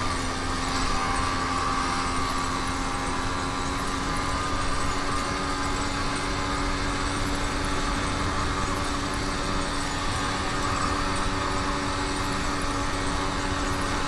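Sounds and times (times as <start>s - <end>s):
two-stroke engine running: 0.0s - 14.0s.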